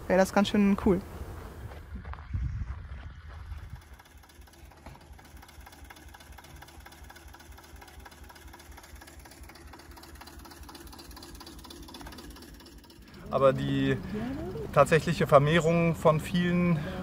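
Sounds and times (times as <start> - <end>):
old tractor engine running: 2.8 - 17.0.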